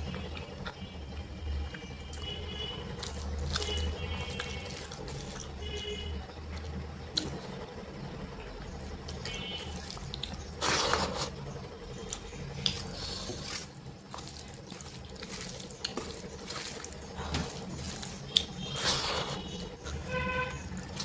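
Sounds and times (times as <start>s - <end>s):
wet eating squelches: 0.0s - 21.0s.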